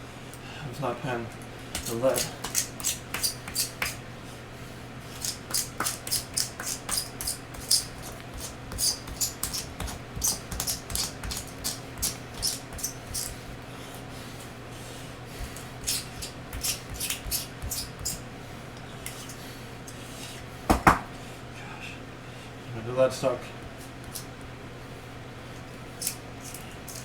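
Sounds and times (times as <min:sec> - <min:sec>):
fan hum: 0:00.0 - 0:27.0.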